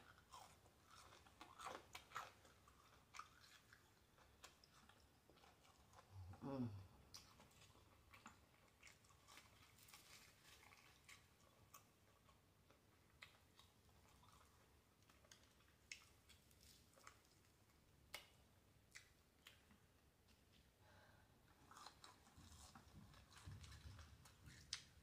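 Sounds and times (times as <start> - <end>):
chewing and crunching: 0.0 - 6.4, 7.0 - 20.6, 21.5 - 25.0.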